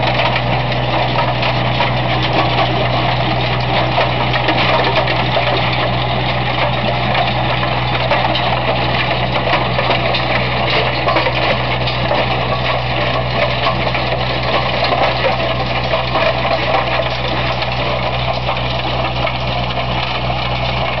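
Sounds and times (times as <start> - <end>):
rotor churning soil and stones: 0.0 - 21.0
tractor engine hum: 0.0 - 21.0.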